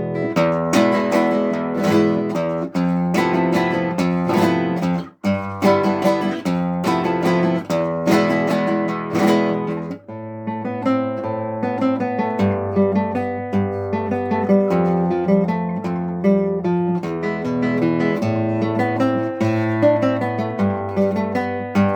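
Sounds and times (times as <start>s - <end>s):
acoustic guitar strumming and plucking: 0.0s - 21.9s.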